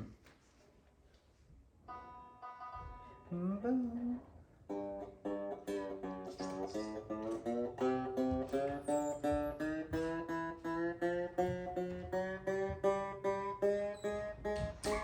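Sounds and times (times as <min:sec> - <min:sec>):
banjo plucked notes: 0:01.9 - 0:15.0.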